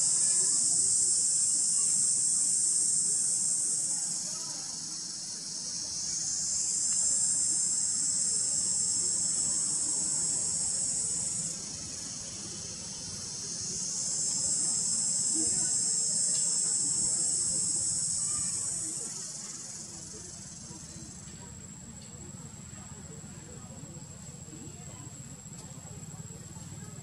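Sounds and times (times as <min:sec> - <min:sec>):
high-pitched insect chorus: 0:00.0 - 0:27.0.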